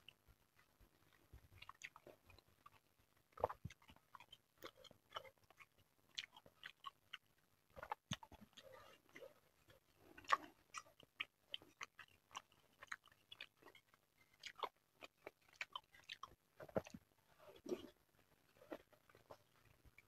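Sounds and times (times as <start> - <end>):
chewing and wet mouth smacks: 0.6 - 18.0.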